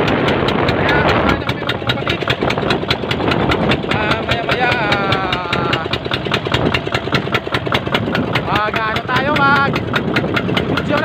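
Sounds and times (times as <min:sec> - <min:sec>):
boat engine chugging: 0:00.0 - 0:11.0
water rushing: 0:00.0 - 0:11.0
wind: 0:00.0 - 0:11.0.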